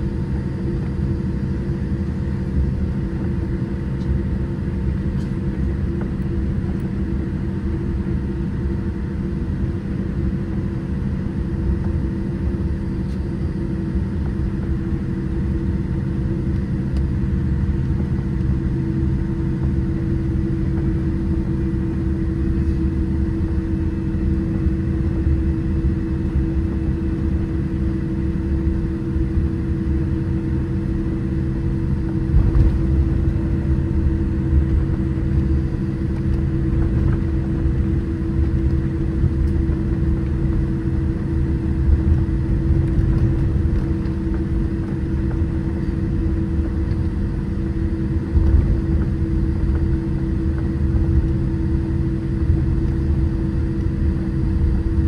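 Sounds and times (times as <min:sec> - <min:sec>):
airliner engines rumbling: 0:00.0 - 0:55.0
constant cabin hum: 0:00.0 - 0:55.0.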